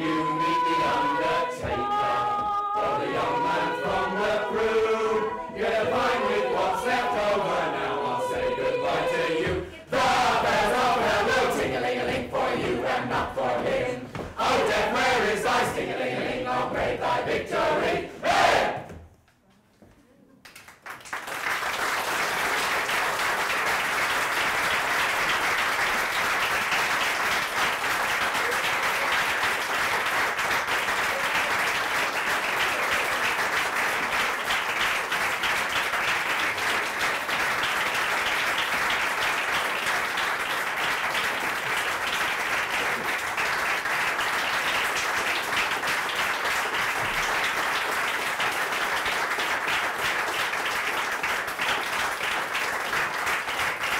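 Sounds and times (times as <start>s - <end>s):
audience applauding: 0.0s - 13.0s, 20.4s - 53.9s.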